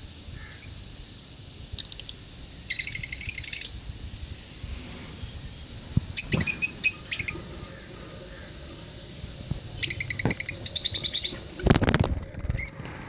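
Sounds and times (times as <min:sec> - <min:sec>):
lovebirds chirping: 0:01.7 - 0:13.0.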